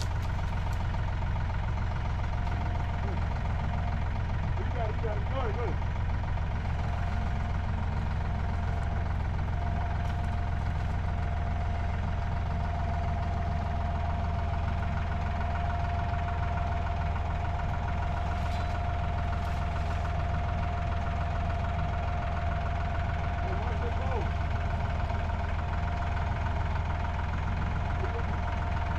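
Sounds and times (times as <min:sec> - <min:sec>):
engine humming with whine: 0:00.0 - 0:28.9.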